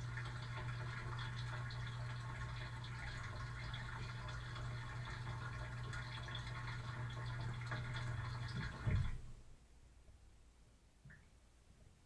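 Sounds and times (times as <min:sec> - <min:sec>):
low pump hum: 0:00.0 - 0:09.7.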